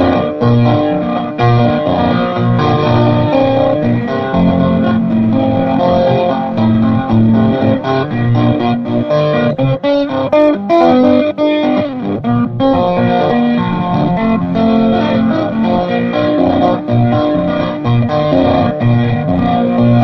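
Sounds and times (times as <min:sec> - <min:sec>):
electric guitar solo: 0:00.0 - 0:20.0.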